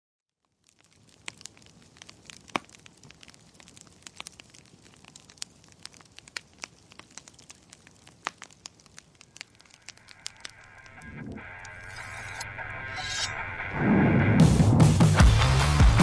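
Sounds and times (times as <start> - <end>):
wood fire crackling and popping: 0.4 - 13.4.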